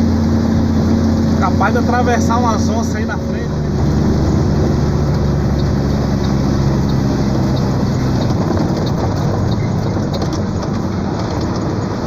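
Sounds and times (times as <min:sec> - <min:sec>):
diesel engine with engine brake: 0:00.0 - 0:12.0.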